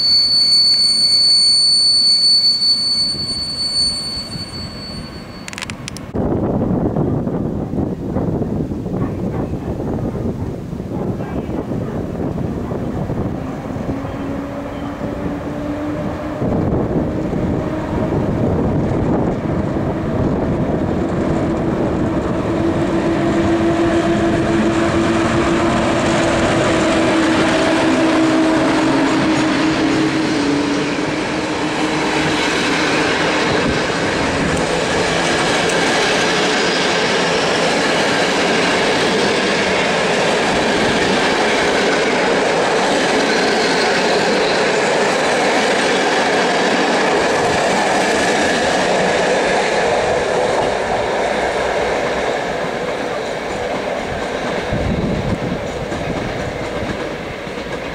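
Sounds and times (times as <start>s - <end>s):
electric locomotive humming: 0.0s - 57.9s
train wheels rumbling on rails: 0.0s - 57.9s.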